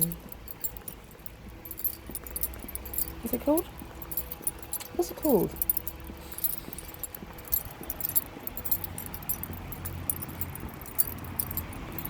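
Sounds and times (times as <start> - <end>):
low steady rumble: 0.0 - 12.0
small metal pieces jingling: 0.0 - 12.0.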